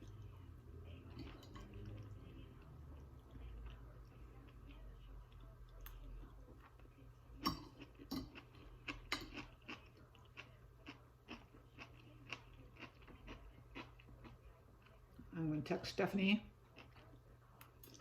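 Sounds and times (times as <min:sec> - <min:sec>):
person chewing food: 0:00.0 - 0:15.3, 0:16.6 - 0:18.0.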